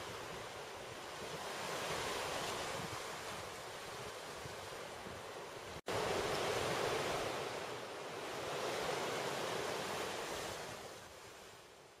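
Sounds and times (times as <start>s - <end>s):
surf washing over rocky shore: 0.0s - 11.6s.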